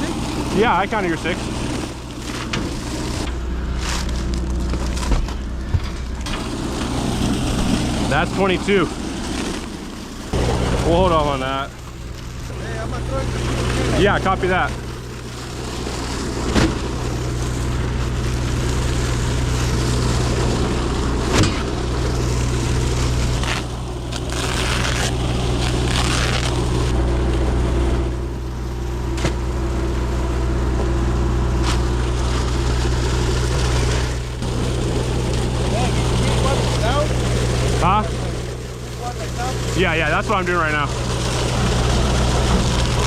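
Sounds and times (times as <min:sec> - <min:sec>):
engine running steadily: 0:00.0 - 0:43.0.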